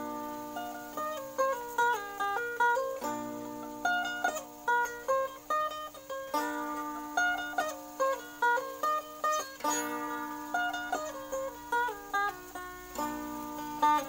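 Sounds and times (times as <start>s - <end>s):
lute drone string ringing: 0.0s - 14.0s
plucked lute melody: 0.0s - 14.0s.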